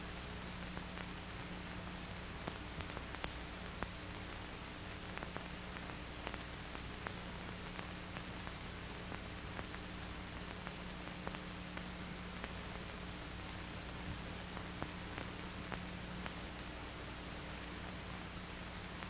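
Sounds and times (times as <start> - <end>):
faint clicks and crackles: 0.0 - 19.0
film soundtrack hiss: 0.0 - 19.0.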